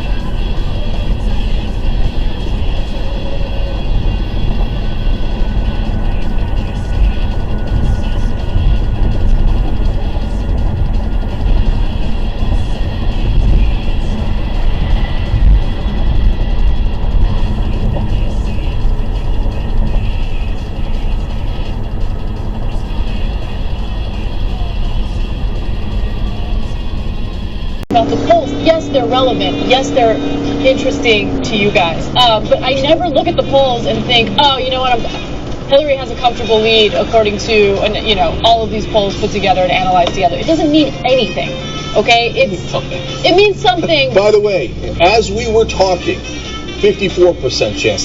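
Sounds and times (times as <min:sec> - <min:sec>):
vehicle low rumble: 0:00.0 - 0:48.0.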